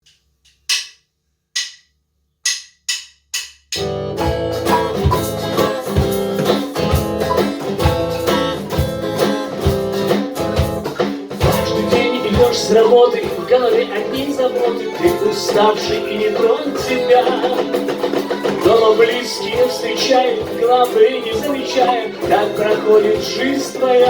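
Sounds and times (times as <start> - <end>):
steady drum beat: 2.4 - 24.0
guitar: 3.8 - 24.0.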